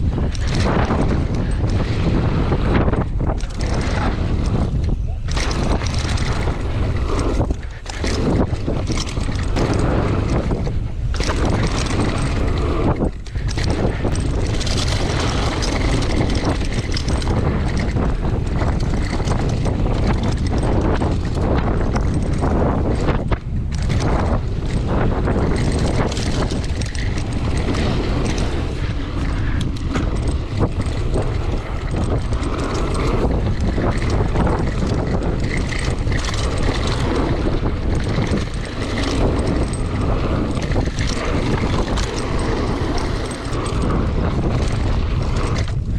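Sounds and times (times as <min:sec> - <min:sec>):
bike knocks and rattles: 0:00.0 - 0:45.9
wind buffeting microphone: 0:00.0 - 0:45.9.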